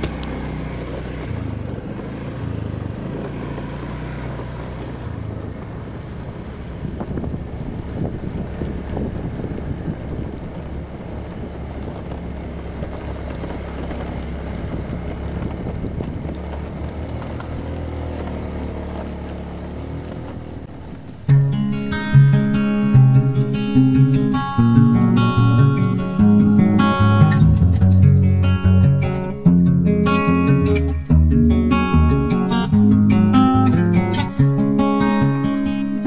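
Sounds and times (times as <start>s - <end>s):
engine running: 0.0s - 36.0s.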